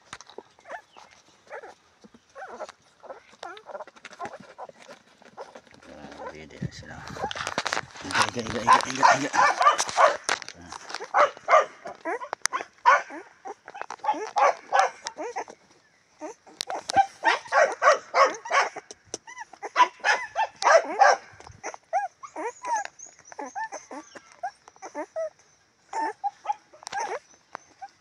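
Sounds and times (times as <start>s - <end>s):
puppies yelping and squealing: 0.0s - 28.0s.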